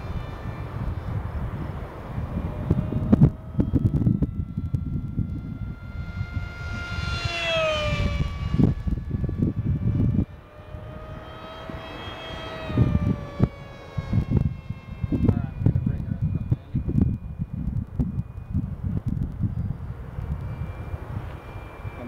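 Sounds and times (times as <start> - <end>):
model plane motor whining: 0.0 - 22.0
wind buffeting microphone: 0.0 - 22.0.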